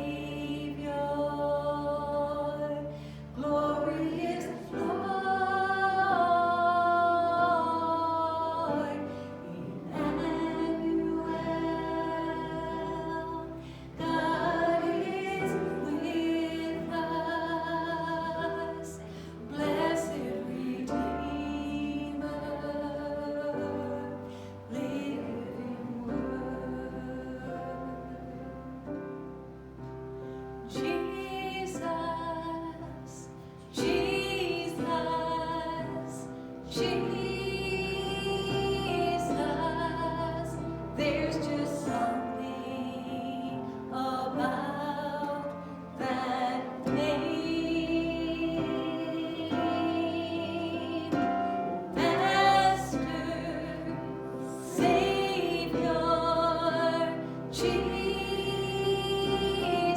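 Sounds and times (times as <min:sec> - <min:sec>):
woman singing with vibrato: 0:00.0 - 0:28.4, 0:30.7 - 0:59.9.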